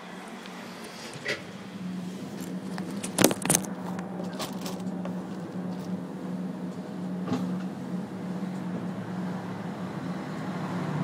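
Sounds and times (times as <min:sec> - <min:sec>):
tram equipment humming: 0:00.0 - 0:11.0.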